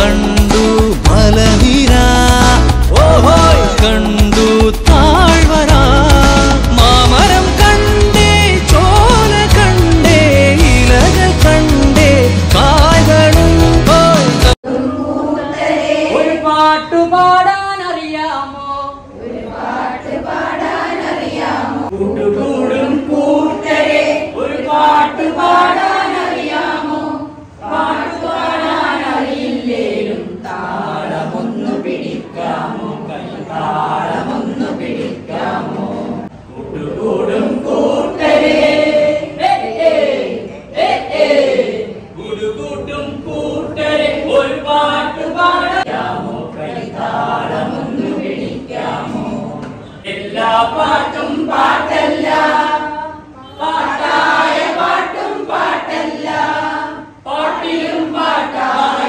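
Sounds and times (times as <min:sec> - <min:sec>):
group singing in unison: 0:00.0 - 0:59.0.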